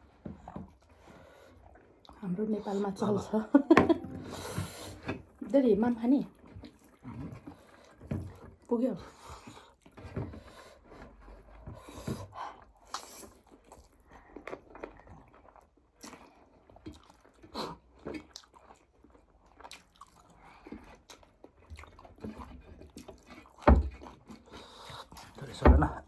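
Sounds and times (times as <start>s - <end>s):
people chewing and mouth sounds: 0.0s - 5.4s, 6.2s - 26.0s.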